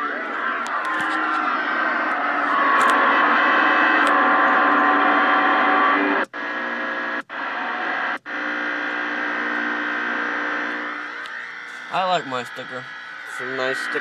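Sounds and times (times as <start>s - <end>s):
radio static hissing: 0.0s - 14.0s
steady humming tones: 0.0s - 14.0s.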